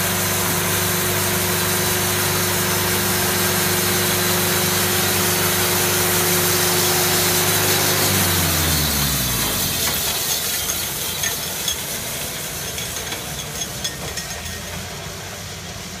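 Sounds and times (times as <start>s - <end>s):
band sawmill running: 0.0s - 16.0s
low mechanical rumble: 0.0s - 16.0s.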